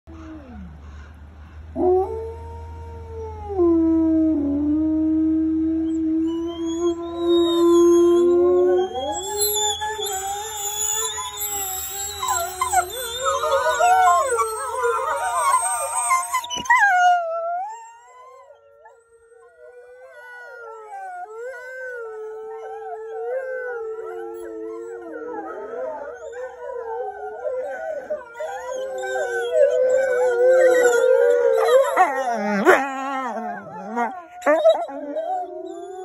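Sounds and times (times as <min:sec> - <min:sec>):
wolves howling: 0:01.8 - 0:36.0.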